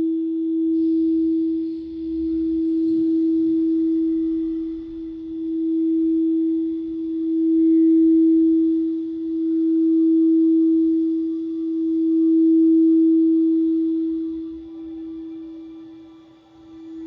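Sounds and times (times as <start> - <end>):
singing bowl tone: 0.0 - 17.0.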